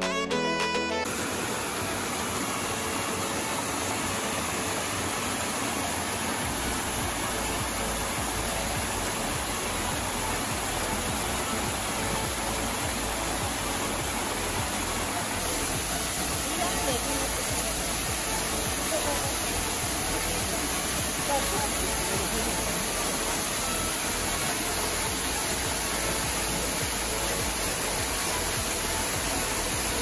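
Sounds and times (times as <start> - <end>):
waterfall rushing: 1.1 - 30.0.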